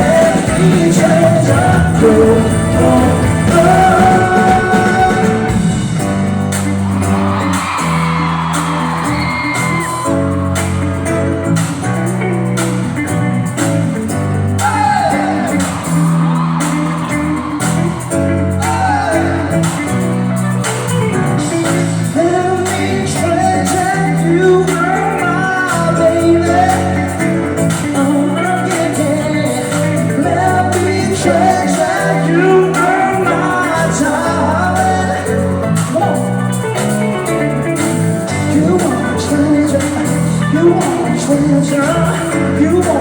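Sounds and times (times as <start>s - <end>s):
live pop band playing: 0.0s - 43.0s.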